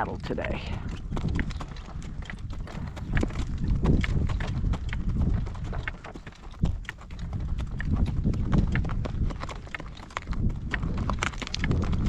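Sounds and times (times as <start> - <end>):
horse hooves clip-clopping: 0.0 - 12.0
wind on microphone: 0.0 - 12.0.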